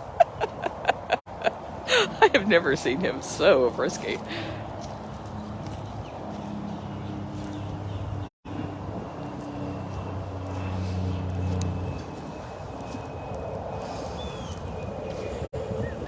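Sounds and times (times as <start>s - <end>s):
motor engine humming: 1.9s - 15.5s.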